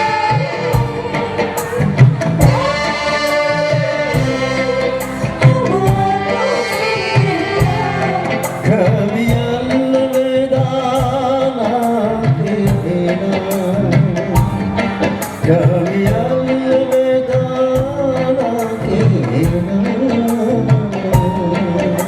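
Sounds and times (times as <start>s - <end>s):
live band through loudspeakers: 0.0s - 22.0s.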